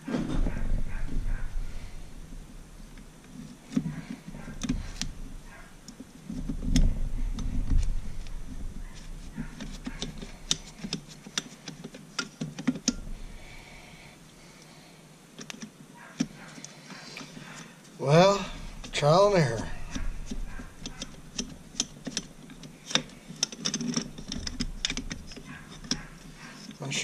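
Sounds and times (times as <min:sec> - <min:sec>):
metal on metal clicks and knocks: 0:00.2 - 0:13.5, 0:18.4 - 0:26.8.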